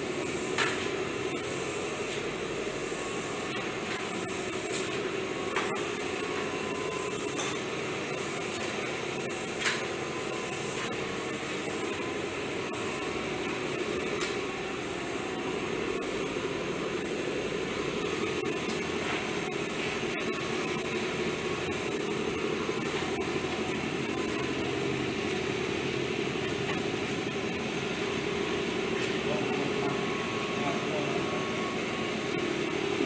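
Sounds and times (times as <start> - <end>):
workshop equipment hissing and humming: 0.0 - 33.0.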